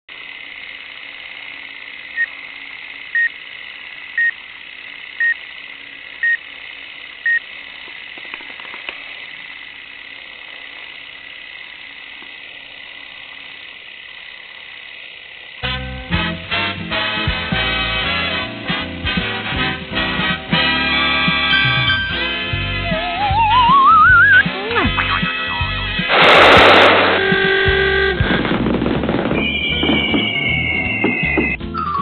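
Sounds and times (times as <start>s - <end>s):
film soundtrack hiss and hum: 0.1s - 32.0s.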